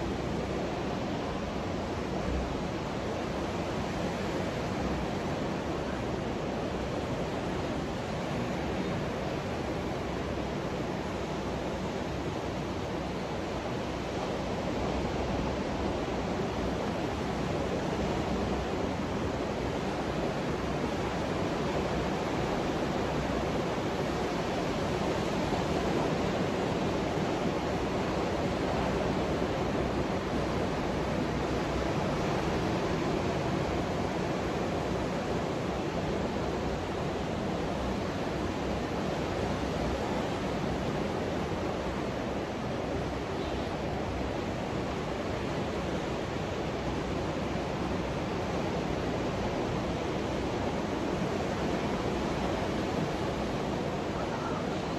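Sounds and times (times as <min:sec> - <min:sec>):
ocean surf on beach: 0:00.0 - 0:54.9.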